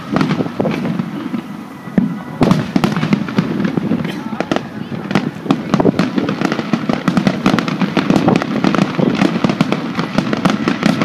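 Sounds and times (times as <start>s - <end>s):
continuous rumble: 0.0s - 11.0s
firework shells bursting: 0.0s - 11.0s.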